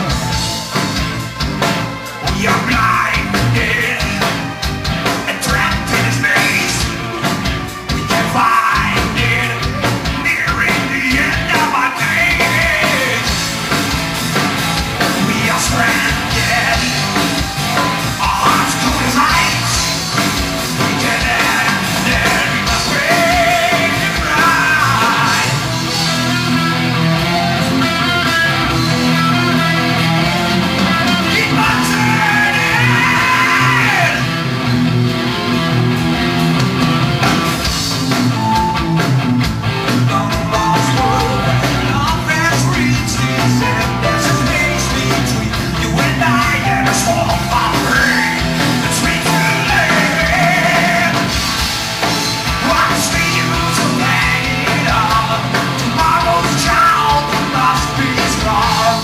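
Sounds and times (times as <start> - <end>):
bass guitar: 0.0 - 59.0
drums: 0.0 - 59.0
electric guitars: 0.0 - 59.0
keyboards: 0.0 - 59.0
person singing: 2.2 - 13.5, 15.0 - 20.1, 20.8 - 34.3, 39.9 - 51.4, 52.5 - 59.0.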